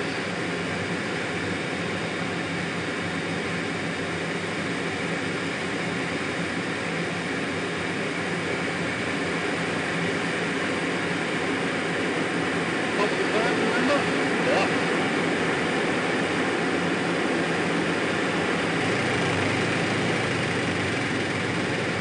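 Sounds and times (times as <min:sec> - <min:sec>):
jet engine: 0:00.0 - 0:22.0.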